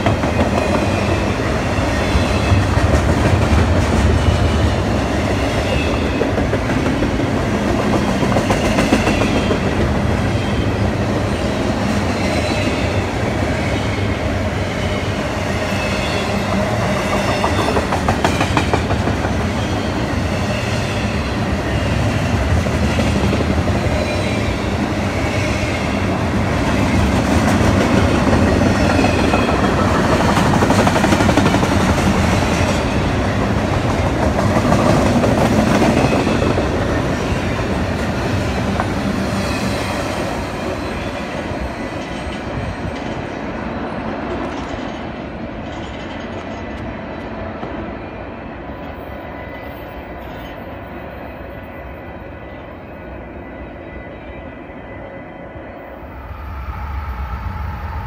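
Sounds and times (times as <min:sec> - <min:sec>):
freight train wheels rumbling on rail: 0:00.0 - 0:55.1.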